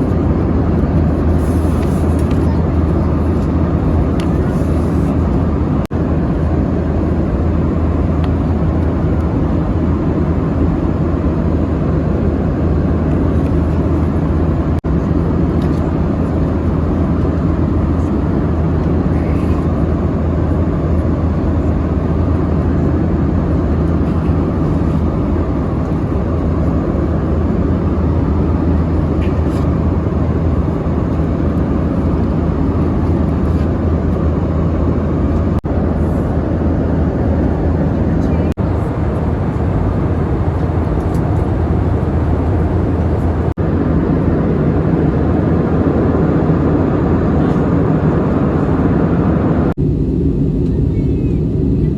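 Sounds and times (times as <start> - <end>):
jet engine and airflow noise: 0.0 - 51.9.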